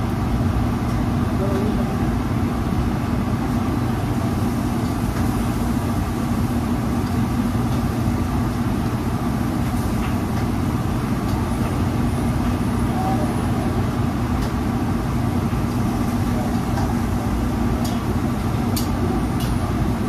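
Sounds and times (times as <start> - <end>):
exhaust hood fan droning: 0.0 - 20.0.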